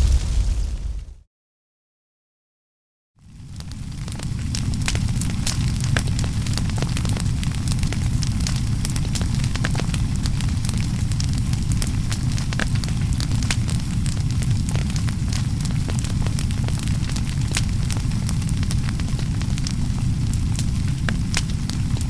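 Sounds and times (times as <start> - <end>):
fire crackling and popping: 0.0 - 1.2, 3.2 - 22.0
low rumble of fire: 0.0 - 1.2, 3.2 - 22.0.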